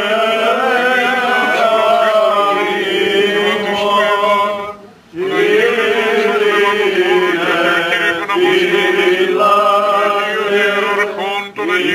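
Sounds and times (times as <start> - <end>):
man chanting long held notes: 0.0 - 11.9.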